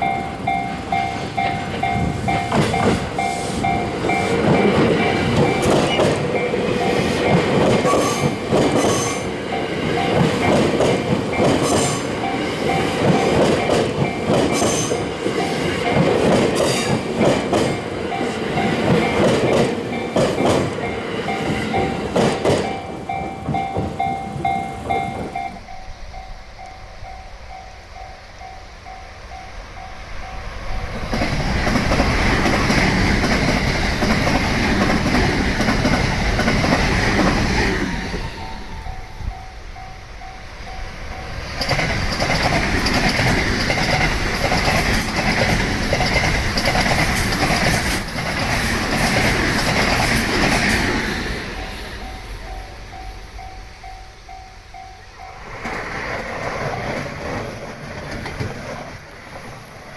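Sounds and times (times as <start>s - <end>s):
train wheels clattering: 0.0s - 27.6s, 29.6s - 39.9s, 40.5s - 59.8s.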